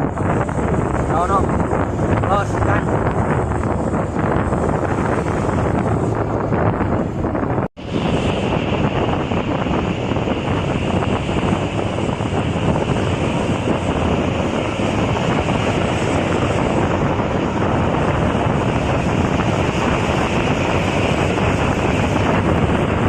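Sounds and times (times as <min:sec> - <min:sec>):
highway road and vehicle noise: 0:00.0 - 0:23.0
wind rushing over microphone: 0:00.0 - 0:23.0.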